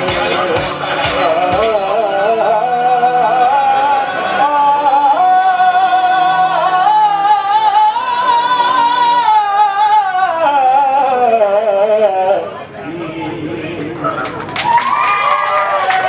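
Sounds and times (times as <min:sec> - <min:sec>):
person singing long held notes: 0:00.0 - 0:14.1
music: 0:00.0 - 0:14.4.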